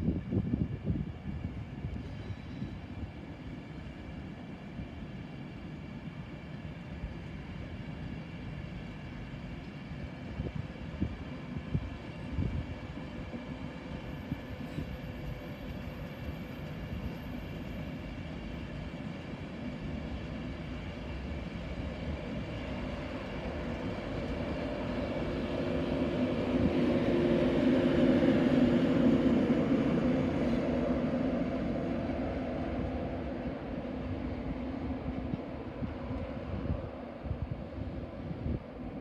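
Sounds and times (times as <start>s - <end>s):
electric train hum: 0.0s - 39.0s.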